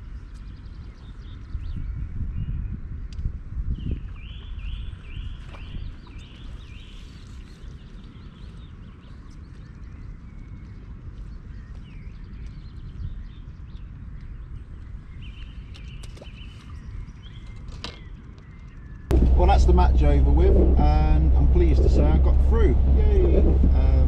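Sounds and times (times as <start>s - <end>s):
wind rumble on microphone: 0.0s - 24.0s
birds chirping: 3.8s - 24.0s.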